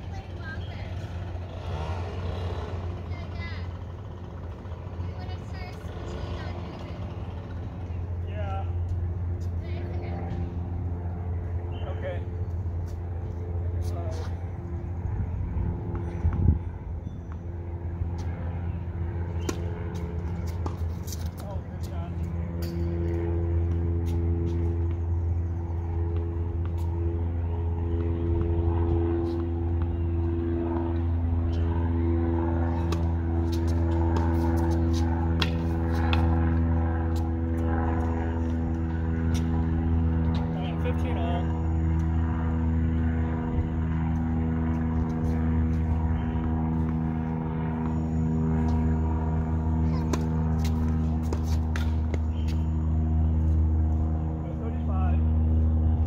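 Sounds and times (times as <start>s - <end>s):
low machine hum with tones: 0.0s - 56.0s.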